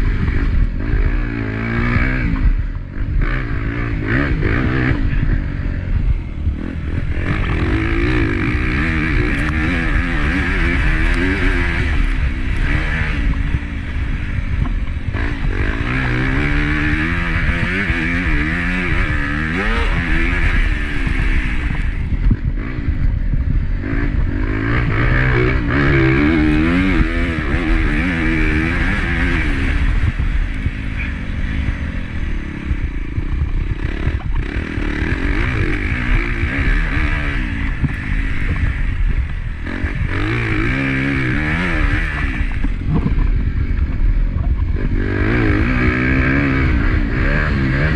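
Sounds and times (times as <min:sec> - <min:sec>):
motocross bike engine revving: 0:00.0 - 0:47.9
wind noise on microphone: 0:00.0 - 0:47.9.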